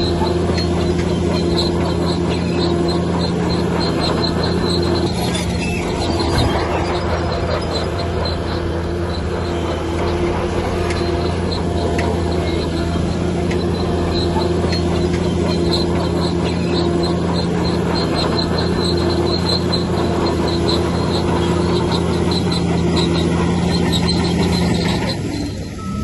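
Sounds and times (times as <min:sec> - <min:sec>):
bulldozer diesel engine running: 0:00.0 - 0:26.0
high-pitched squeaks: 0:00.0 - 0:26.0.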